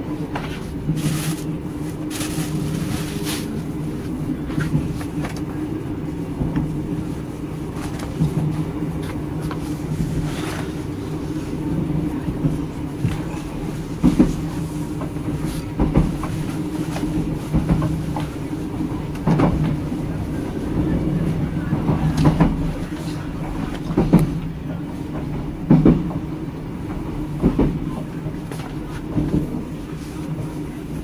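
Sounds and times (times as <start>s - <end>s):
train carriage rumble and hum: 0.0s - 31.0s.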